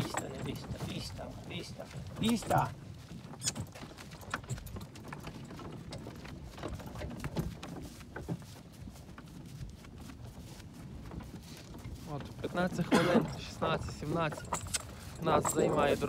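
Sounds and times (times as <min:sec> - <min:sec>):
harness chains and cart rattling: 0:00.0 - 0:16.0
hooves clip-clopping on dirt: 0:00.0 - 0:16.0.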